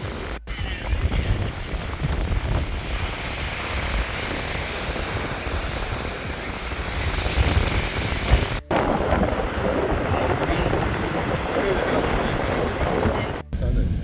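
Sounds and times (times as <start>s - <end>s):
ocean surf rushing: 0.0s - 13.4s
wind buffeting microphone: 0.0s - 14.0s.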